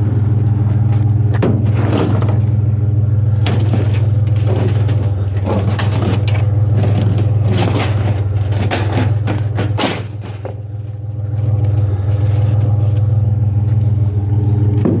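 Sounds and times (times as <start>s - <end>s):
rattles and clanks: 0.0s - 15.0s
vehicle engine drone: 0.0s - 15.0s.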